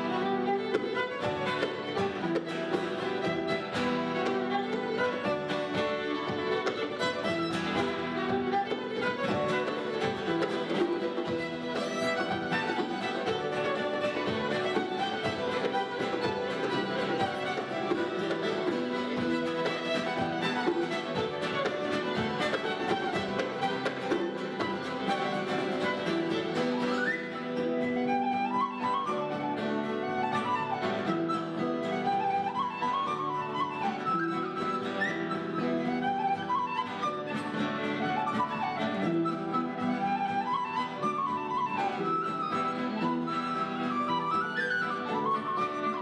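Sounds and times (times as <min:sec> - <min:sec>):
fiddle: 0:00.0 - 0:46.0
flute melody: 0:00.0 - 0:46.0
guitar: 0:00.0 - 0:46.0.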